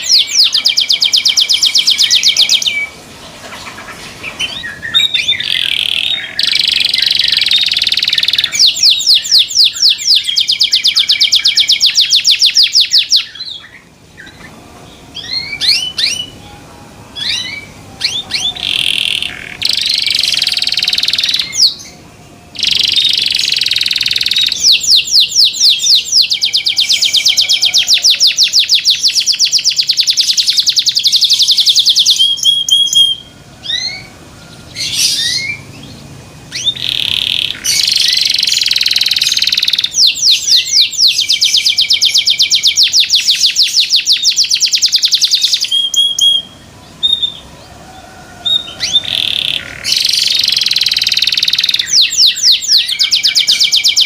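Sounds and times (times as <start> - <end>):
canary singing fast trills: 0.0 - 54.0.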